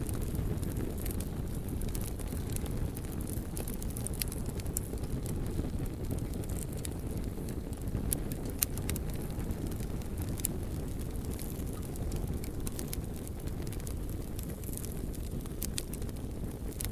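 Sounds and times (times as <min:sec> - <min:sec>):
wood fire crackling and popping: 0:00.0 - 0:16.9.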